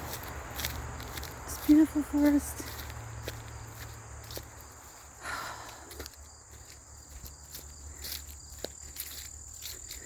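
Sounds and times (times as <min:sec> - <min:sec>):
footsteps crunching on forest floor: 0:00.0 - 0:10.0
insects trilling: 0:00.0 - 0:10.0.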